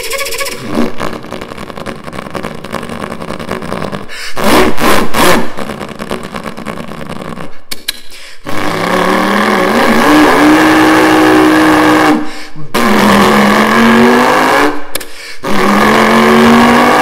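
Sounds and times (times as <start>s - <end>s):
man imitating car engine: 0.0s - 7.5s, 8.4s - 14.8s, 15.4s - 17.0s.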